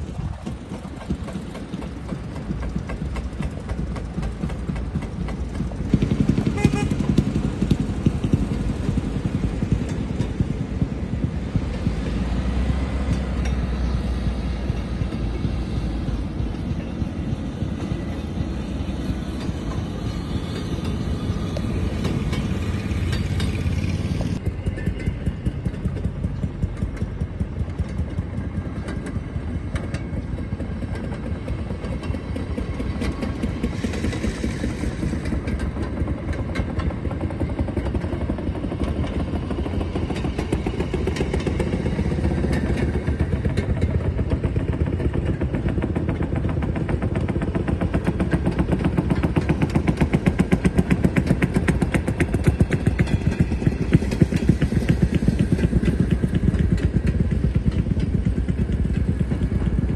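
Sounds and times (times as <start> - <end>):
low rumbling track noise: 0.0 - 59.9
small engine beating rapidly: 0.0 - 59.9.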